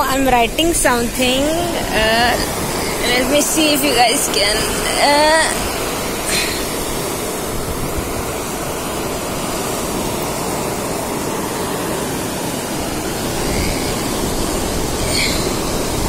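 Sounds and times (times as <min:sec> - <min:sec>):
wind rumble on microphone: 0:00.0 - 0:11.7, 0:12.6 - 0:16.0
sea surf washing ashore: 0:00.0 - 0:16.0.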